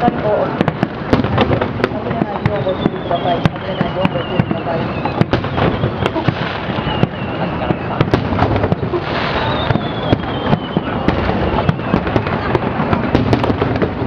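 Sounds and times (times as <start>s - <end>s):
fireworks bangs and crackles: 0.0s - 14.0s
fireworks whistles falling in pitch: 2.0s - 14.0s.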